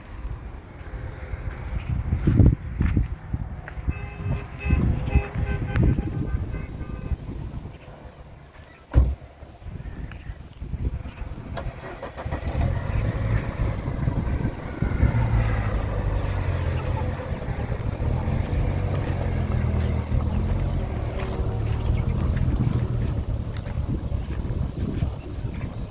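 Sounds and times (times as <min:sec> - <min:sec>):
vehicle engine droning: 0:00.0 - 0:25.9.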